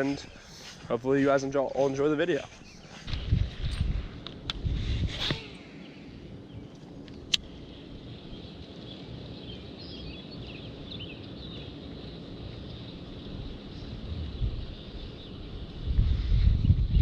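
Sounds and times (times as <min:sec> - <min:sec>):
birds chirping: 0:00.0 - 0:04.5, 0:05.1 - 0:17.0
outdoor background hum: 0:00.0 - 0:17.0.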